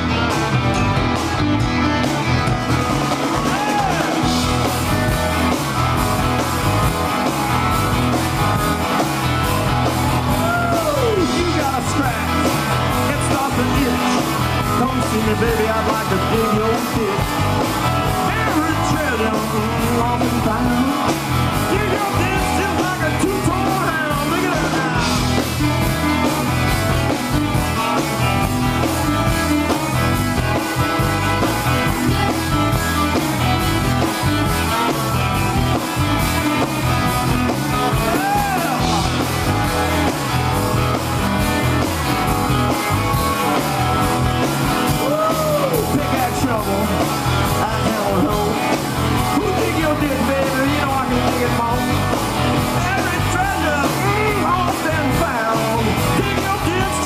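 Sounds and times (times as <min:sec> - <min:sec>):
rock and roll band playing: 0:00.0 - 0:57.0.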